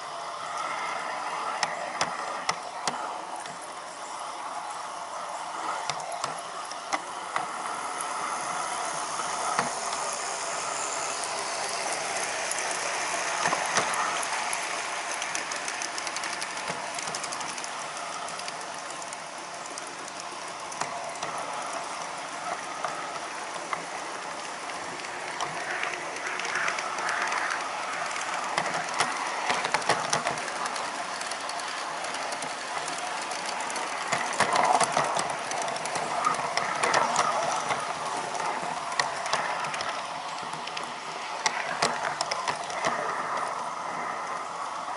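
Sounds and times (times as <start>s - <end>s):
model train mechanical whir: 0.0s - 44.9s
wheel clicks: 0.0s - 44.9s.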